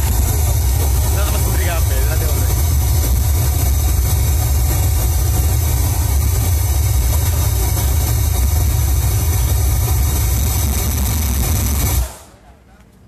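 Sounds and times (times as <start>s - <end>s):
bass-heavy speaker test sound: 0.0s - 12.2s.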